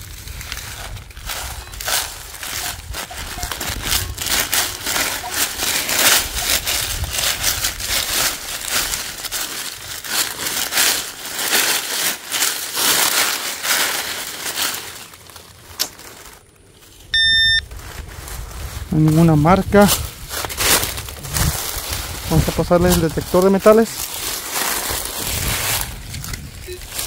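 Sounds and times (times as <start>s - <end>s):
dry leaves and soil crunching: 0.0s - 27.0s.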